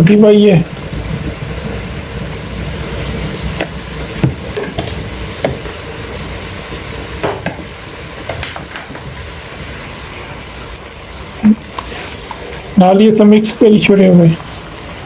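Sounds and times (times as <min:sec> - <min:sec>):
onions sizzling in butter: 0:00.2 - 0:15.0.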